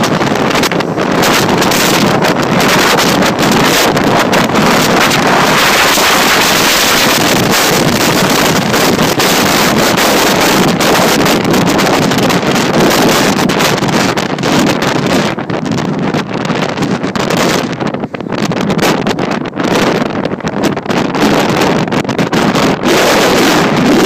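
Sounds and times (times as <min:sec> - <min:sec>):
jet engine blast: 0:00.0 - 0:24.0.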